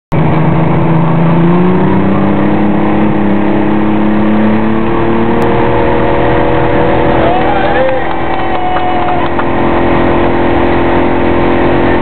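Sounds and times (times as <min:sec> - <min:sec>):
motorboat engine running hard: 0:00.1 - 0:12.0
water rushing: 0:00.1 - 0:12.0
wind: 0:00.1 - 0:12.0.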